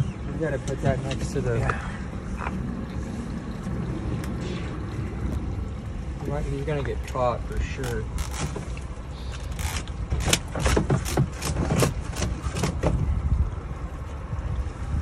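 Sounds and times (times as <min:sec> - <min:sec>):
steady low rumble: 0:00.0 - 0:11.2, 0:11.9 - 0:15.0.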